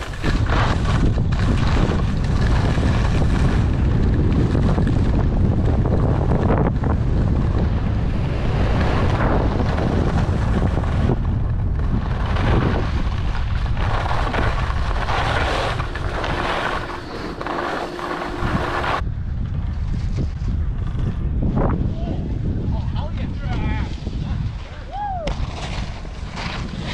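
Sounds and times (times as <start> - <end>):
skis scraping over snow: 0.0 - 19.0, 23.3 - 26.9
wind rushing over microphone: 0.0 - 26.9.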